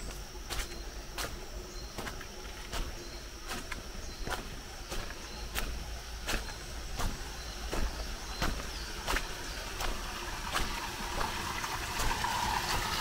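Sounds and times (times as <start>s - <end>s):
short insect chirps: 0.0s - 10.8s
footsteps on leafy dirt path: 0.0s - 13.0s
high insect trill: 0.0s - 13.0s.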